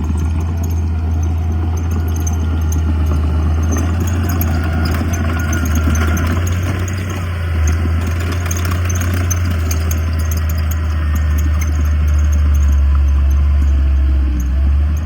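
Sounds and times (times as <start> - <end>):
diesel engine droning: 0.0 - 15.0
faint ticks and rattles: 0.0 - 15.0.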